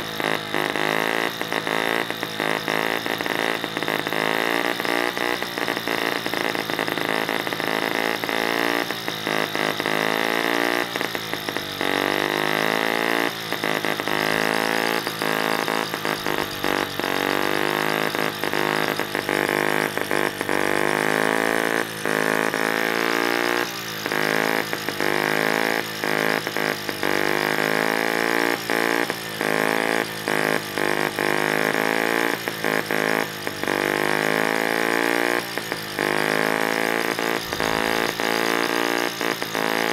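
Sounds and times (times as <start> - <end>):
model engine buzzing: 0.0 - 39.9.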